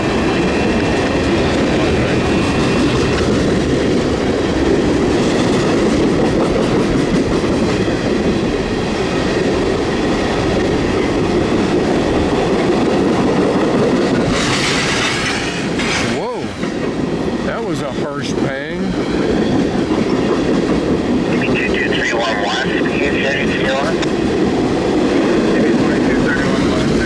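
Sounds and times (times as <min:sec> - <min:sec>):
freight train wheels clattering: 0:00.0 - 0:21.7.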